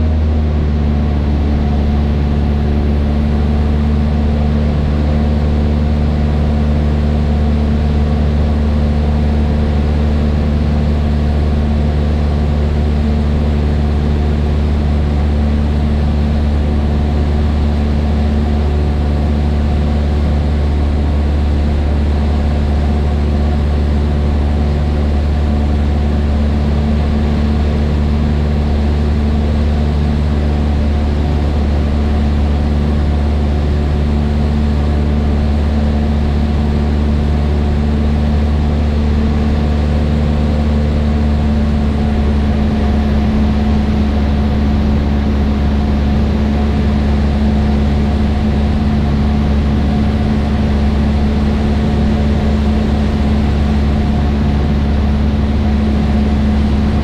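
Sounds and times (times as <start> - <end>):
aircraft engine and propeller: 0.0 - 57.0.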